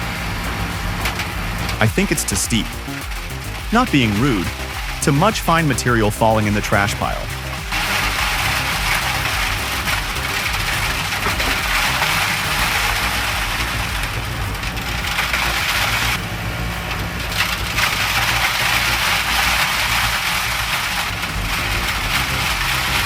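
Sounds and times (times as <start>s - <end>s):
engine droning: 0.0s - 23.0s.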